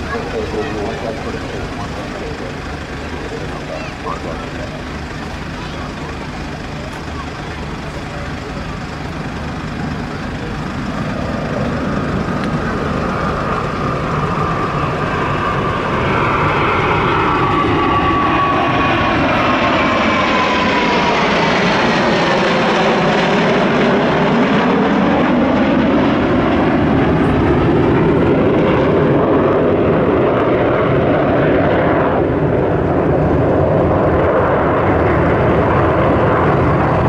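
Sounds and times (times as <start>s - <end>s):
falling jet whine: 0.0s - 37.0s
jet roar: 0.0s - 37.0s.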